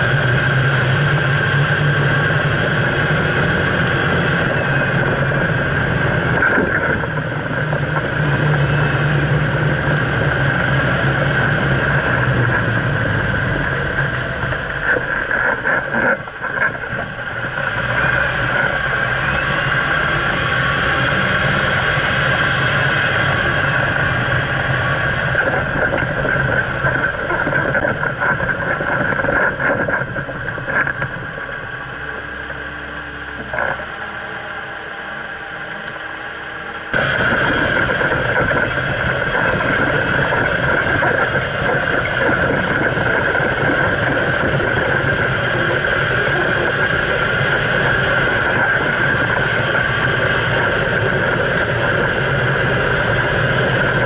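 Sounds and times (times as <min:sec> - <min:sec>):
wind noise: 0:00.0 - 0:36.3, 0:36.9 - 0:54.0
car engine: 0:00.0 - 0:54.0.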